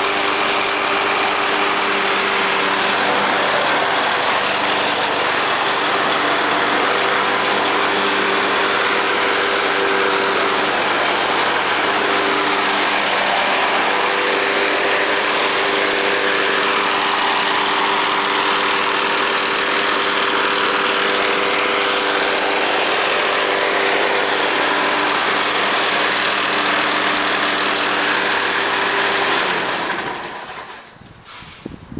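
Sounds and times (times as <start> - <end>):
lawn mower engine running: 0.0 - 31.9.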